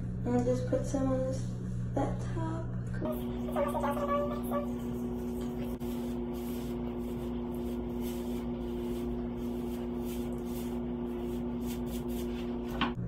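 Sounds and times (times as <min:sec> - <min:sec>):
steady two-note hum: 0:00.0 - 0:13.0.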